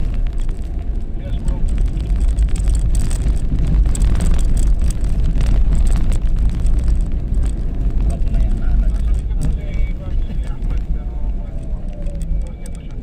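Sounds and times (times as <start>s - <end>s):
engine and tyres rumbling: 0.0s - 13.0s
wind buffeting microphone: 0.0s - 13.0s.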